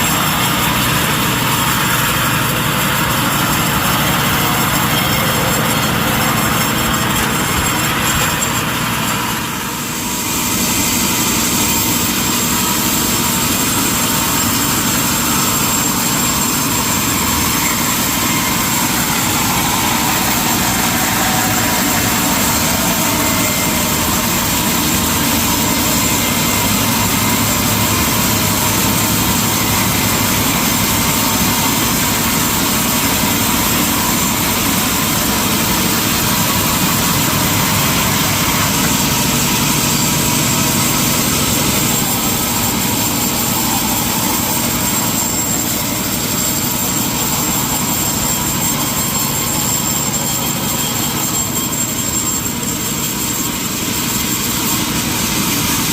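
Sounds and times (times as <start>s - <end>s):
high-pitched whine: 0.0s - 55.9s
sawmill machinery din: 0.0s - 55.9s.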